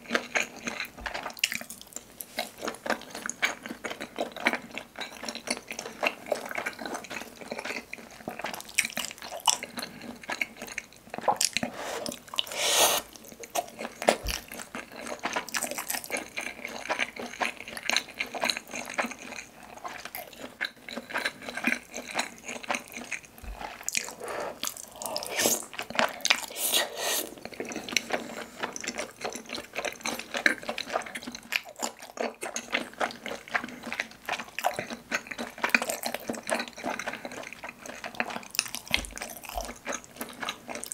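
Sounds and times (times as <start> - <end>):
chewing and wet mouth smacking: 0.0 - 40.9.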